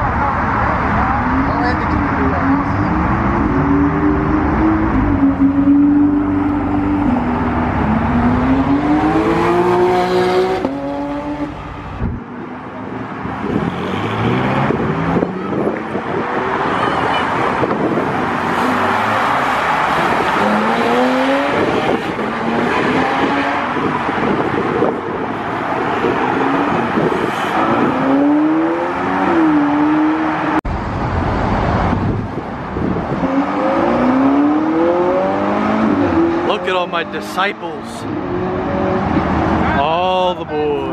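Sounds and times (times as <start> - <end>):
cars accelerating hard: 0.0 - 40.9.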